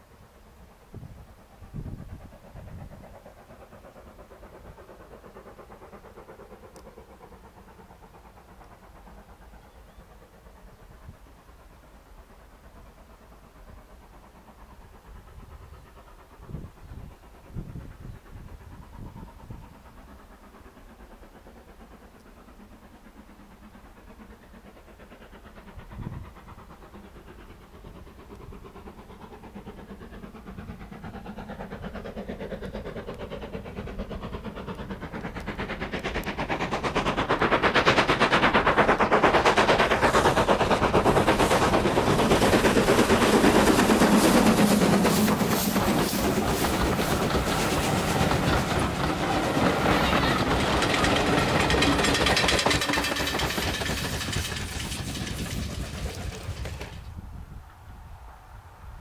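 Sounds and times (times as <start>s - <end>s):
steam locomotive chuffing: 0.0s - 59.0s
train coaches rumbling and clattering: 0.4s - 58.8s.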